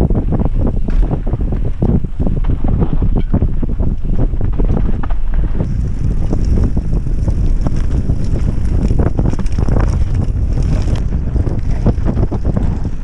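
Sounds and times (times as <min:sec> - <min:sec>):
wind rushing over microphone: 0:00.0 - 0:13.0
bike knocking and rattling: 0:00.8 - 0:13.0.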